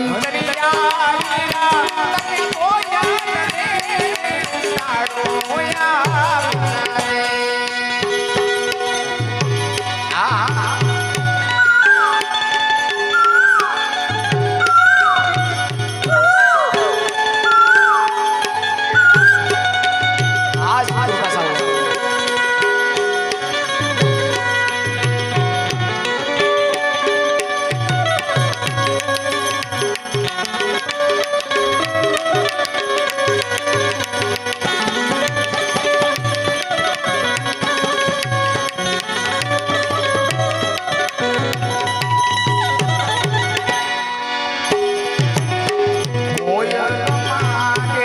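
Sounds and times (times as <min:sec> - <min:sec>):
hand drum rhythm: 0:00.0 - 0:44.0, 0:44.7 - 0:48.0
ornamented melody line: 0:00.0 - 0:48.0.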